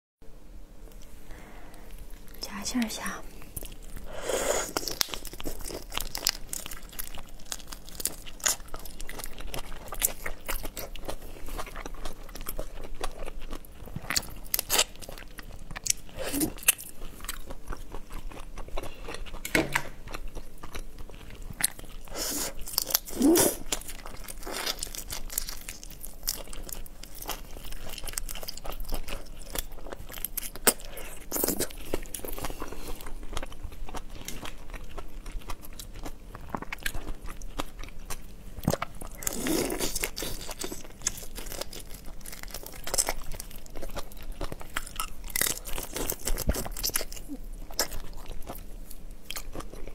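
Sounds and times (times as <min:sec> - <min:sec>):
wet chewing: 0:03.4 - 0:49.9.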